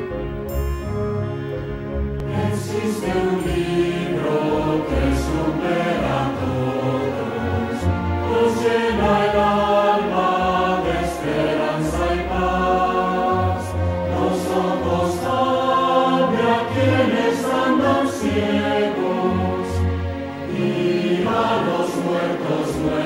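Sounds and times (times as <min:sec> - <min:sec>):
musical accompaniment: 0:00.0 - 0:23.0
choir singing a hymn: 0:02.2 - 0:23.0.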